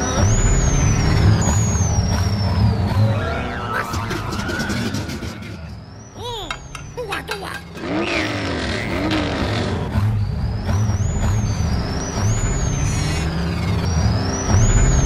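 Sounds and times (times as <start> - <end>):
racing engines rumbling and whining: 0.0 - 15.0.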